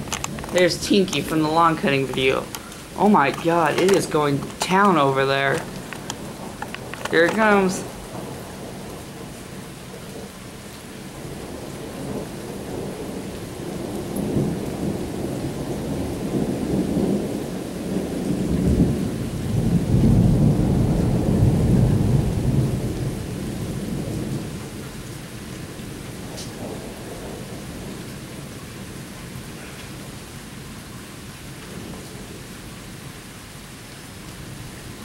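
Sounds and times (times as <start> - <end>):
rolling thunder rumble: 0.0 - 30.7, 31.6 - 33.0
steady rain: 0.0 - 35.0.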